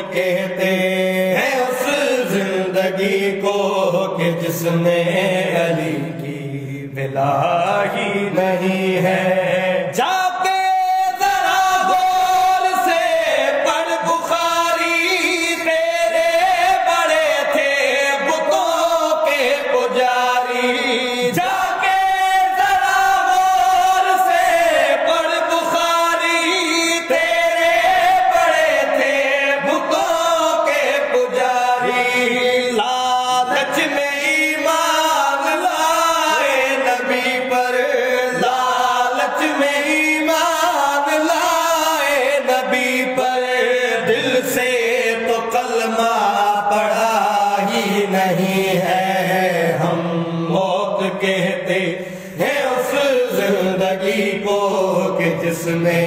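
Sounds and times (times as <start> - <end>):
men chanting in unison: 0.0 - 56.0.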